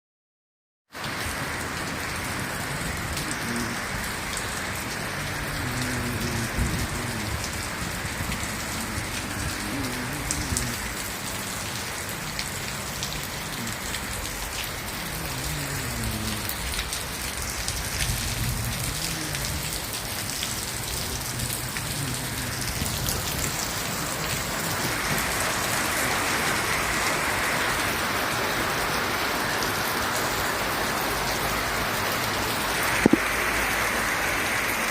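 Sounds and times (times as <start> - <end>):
rain splashing on hard surfaces: 0.9 - 34.9.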